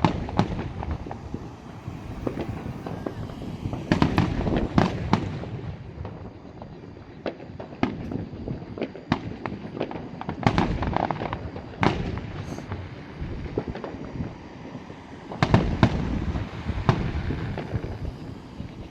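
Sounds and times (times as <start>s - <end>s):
steady low rumble: 0.0s - 8.7s, 10.8s - 18.9s.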